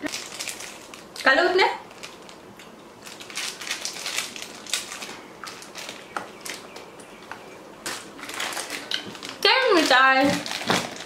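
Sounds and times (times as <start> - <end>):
sweets being chewed: 0.0 - 9.6
plastic sweet packets crackling: 0.0 - 11.0.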